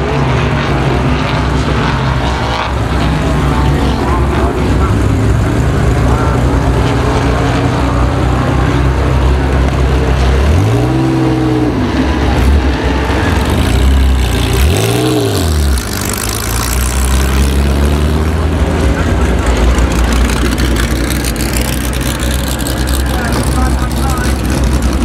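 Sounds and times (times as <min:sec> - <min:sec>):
race car engine idling and revving: 0:00.0 - 0:25.0.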